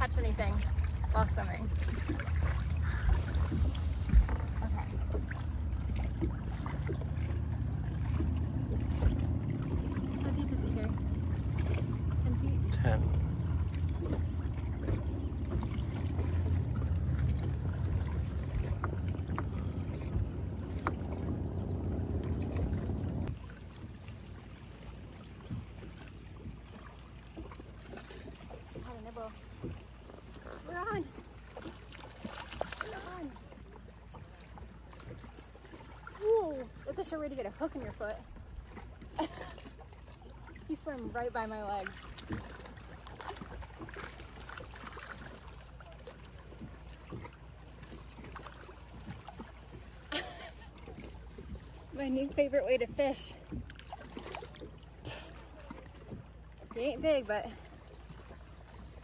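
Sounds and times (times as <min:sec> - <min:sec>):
boat engine rumble: 0:00.0 - 0:59.0
water sloshing and lapping: 0:00.0 - 0:59.0.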